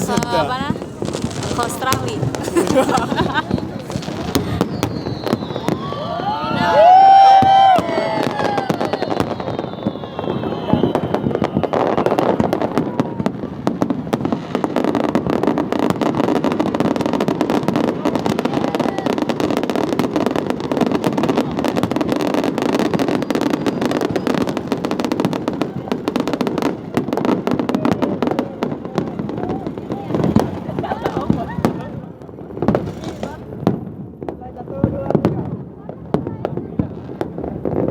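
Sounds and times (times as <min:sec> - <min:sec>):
fireworks crackling and banging: 0:00.0 - 0:37.9.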